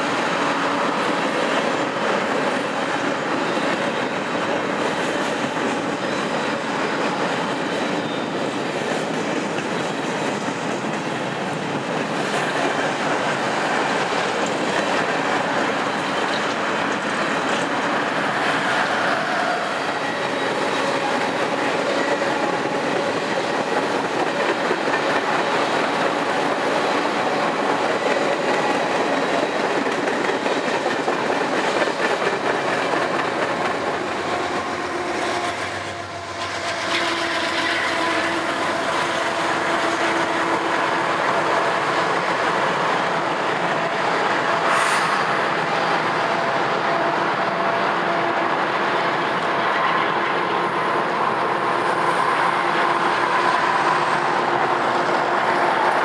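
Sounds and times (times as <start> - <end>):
freight train wheels clattering: 0.0 - 46.4
diesel locomotive engine: 0.0 - 56.0.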